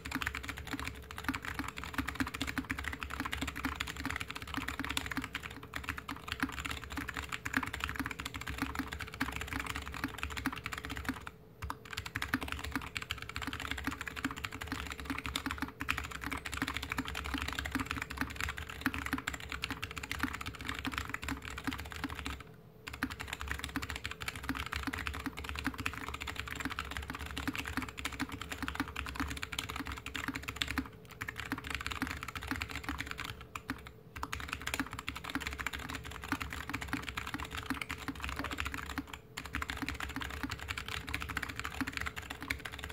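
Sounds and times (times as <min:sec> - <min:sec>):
fast mechanical keyboard typing: 0:00.0 - 0:42.9.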